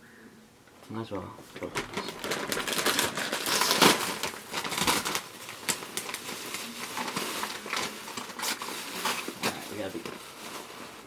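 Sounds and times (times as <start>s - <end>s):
bags crinkling and rustling: 1.4s - 11.0s.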